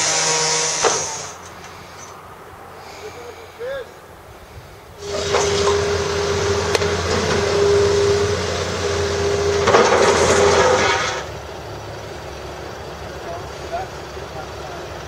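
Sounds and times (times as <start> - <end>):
excavator engine and hydraulic whine: 0.0 - 15.0.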